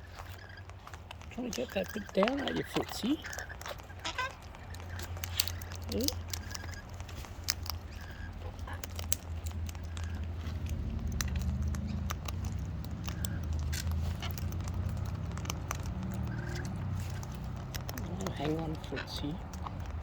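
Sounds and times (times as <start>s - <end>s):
cockatoo cracking seed: 0.0s - 20.0s
steady low rumble: 0.0s - 20.0s.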